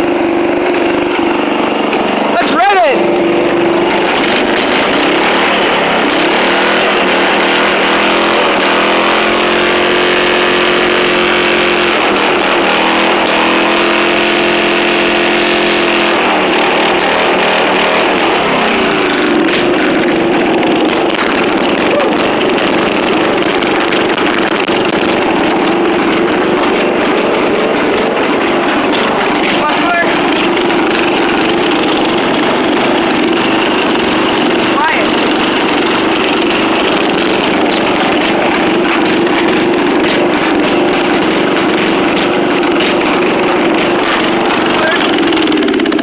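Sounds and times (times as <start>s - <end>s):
lawn mower engine running loudly: 0.0s - 46.0s.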